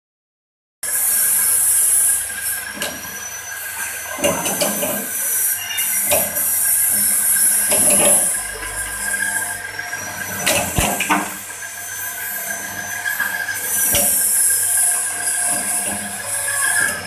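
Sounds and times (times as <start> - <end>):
machine high whine and hiss: 0.8 - 17.0
cutter grinding coconut shell: 0.9 - 17.0.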